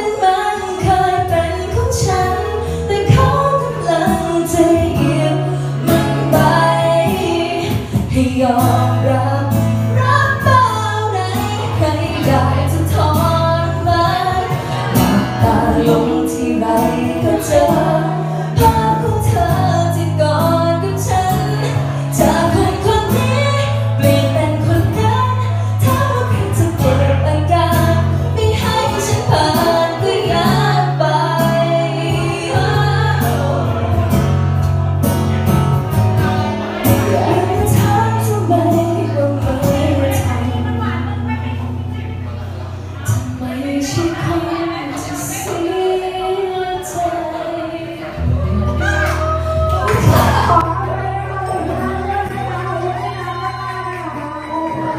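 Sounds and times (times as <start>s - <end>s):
woman singing into a microphone: 0.0s - 34.8s, 36.2s - 54.9s
sustained bass notes: 0.9s - 43.6s, 47.3s - 54.9s.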